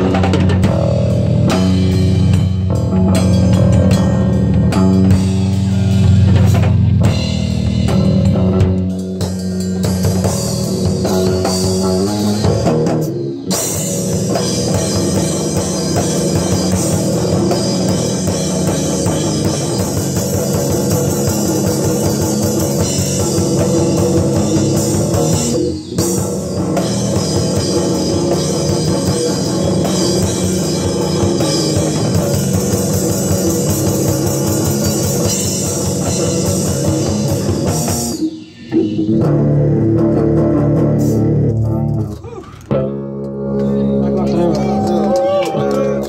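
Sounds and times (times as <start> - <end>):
drum kit: 0.0 - 46.0
electric bass guitar: 0.0 - 46.0.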